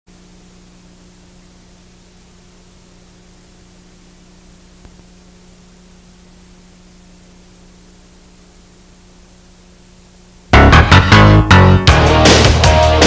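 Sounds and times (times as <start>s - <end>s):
low electrical hum: 0.1s - 12.6s
recording hiss: 0.1s - 13.0s.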